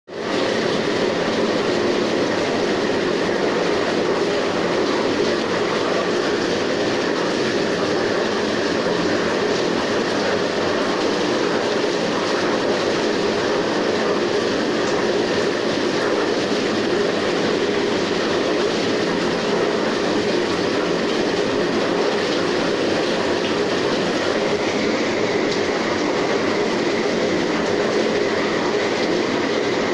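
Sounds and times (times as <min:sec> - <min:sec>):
bathtub pump running: 0:00.1 - 0:29.9
water churning and bubbling: 0:00.1 - 0:29.9.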